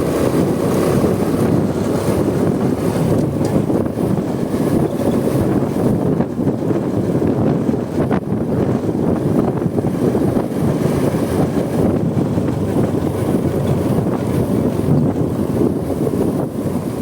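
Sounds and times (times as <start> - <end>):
motorcycle engine running: 0.0 - 17.0
road noise: 0.0 - 17.0
wind rushing over microphone: 0.0 - 17.0.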